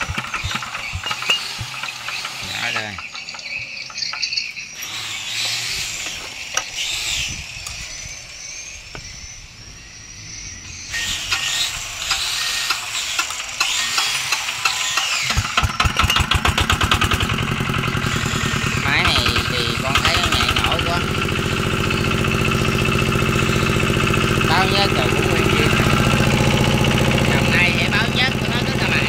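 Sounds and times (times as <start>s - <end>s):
diesel engine cranking and running: 0.0s - 29.0s.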